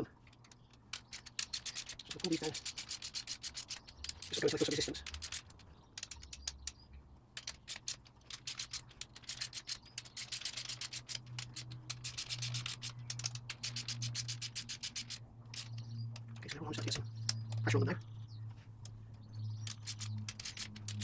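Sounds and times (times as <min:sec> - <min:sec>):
hand ratchet clicking: 0:00.2 - 0:06.8, 0:07.4 - 0:18.2, 0:18.8 - 0:21.0.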